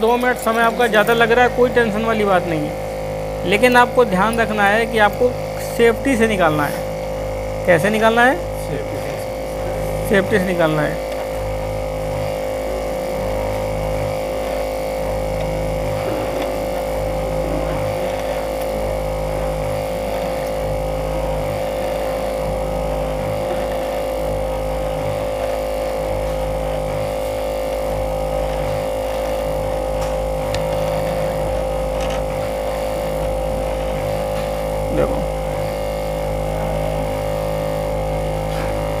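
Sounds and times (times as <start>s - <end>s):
machine humming: 0.0s - 39.0s.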